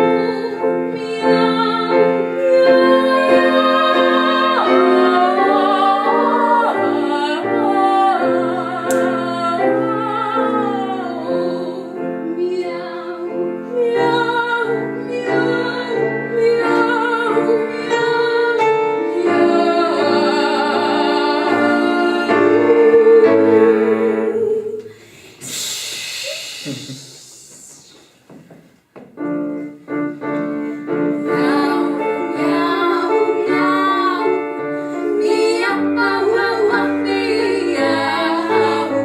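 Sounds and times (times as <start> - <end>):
piano accompaniment: 0.0 - 24.8, 28.8 - 39.0
female voice singing opera-style: 0.0 - 24.9, 31.2 - 39.0.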